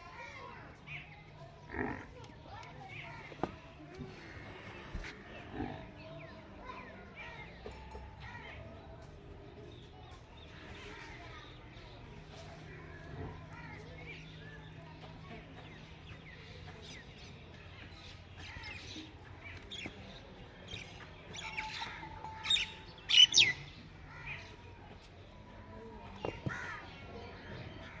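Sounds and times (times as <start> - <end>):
birds chirping: 0.2 - 28.0.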